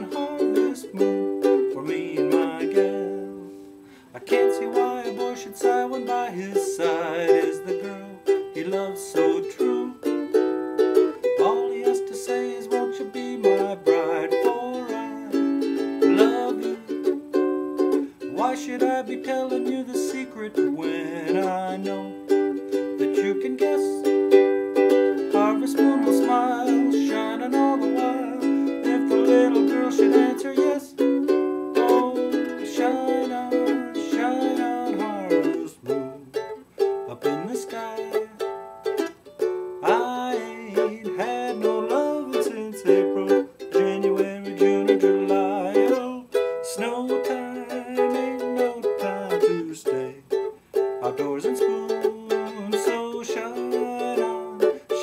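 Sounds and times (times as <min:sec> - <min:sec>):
ukulele strumming chords: 0:00.0 - 0:55.0.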